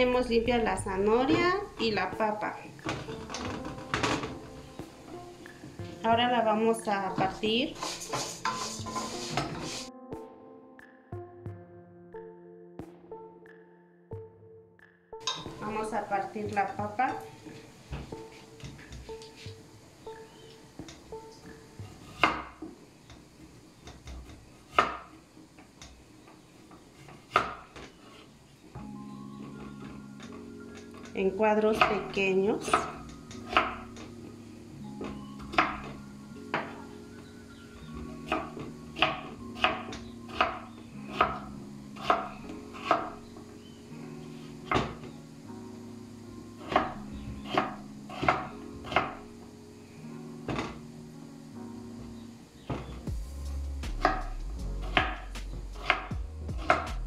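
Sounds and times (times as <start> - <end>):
faint background music: 0.0 - 57.0.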